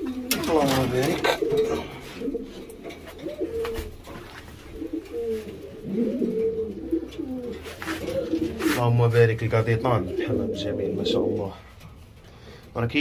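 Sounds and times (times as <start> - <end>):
pigeons cooing: 0.0 - 12.7.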